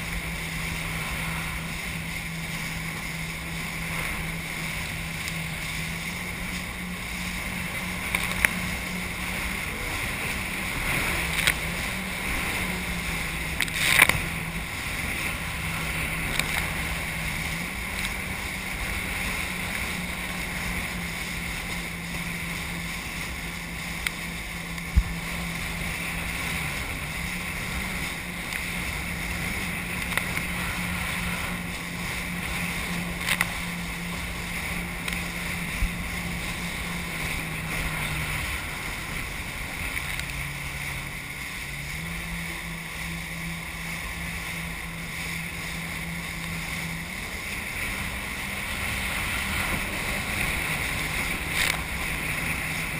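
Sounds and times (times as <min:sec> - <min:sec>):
jet ski engine running: 0:00.0 - 0:52.9
wind and spray rushing: 0:00.0 - 0:52.9.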